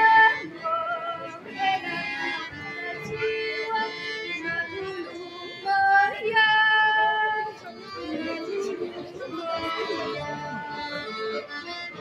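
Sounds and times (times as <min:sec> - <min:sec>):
accordion folk dance music: 0:00.0 - 0:12.0.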